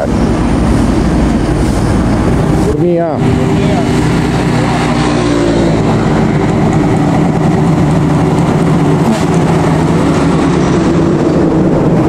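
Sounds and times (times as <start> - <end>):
diesel truck engines: 0.0 - 12.0
tyre and road noise: 0.0 - 12.0.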